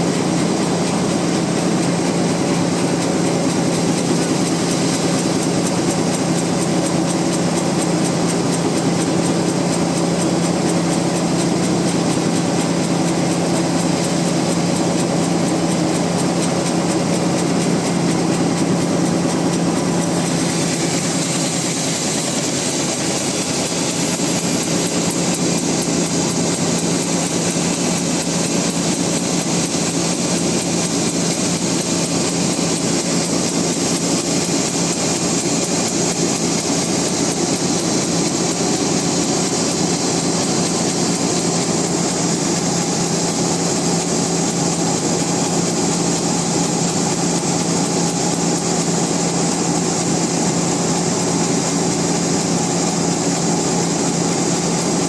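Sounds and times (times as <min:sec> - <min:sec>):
band sawmill blade sawing log: 0:10.8 - 0:55.0.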